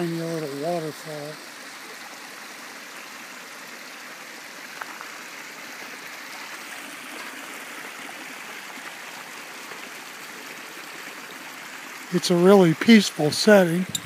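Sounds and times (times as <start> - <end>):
creek rushing over rocks: 0.0 - 14.0.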